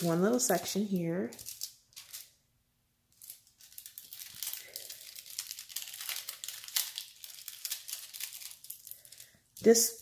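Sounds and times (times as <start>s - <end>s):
plastic film peeling and crinkling: 0.0s - 2.4s, 3.1s - 10.0s.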